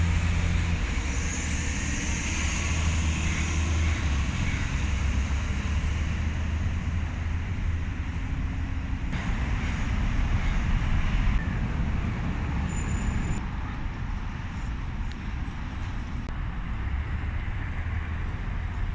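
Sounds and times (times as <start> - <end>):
road traffic engine hum: 0.0 - 18.9.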